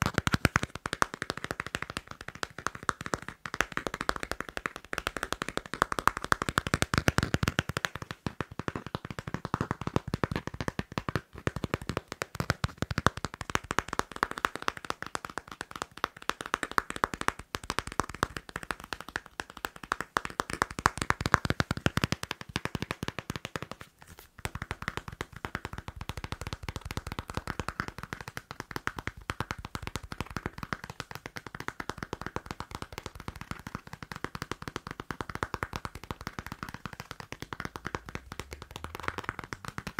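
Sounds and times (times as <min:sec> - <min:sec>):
fast tapping and scratching on paper: 0:00.0 - 0:39.9.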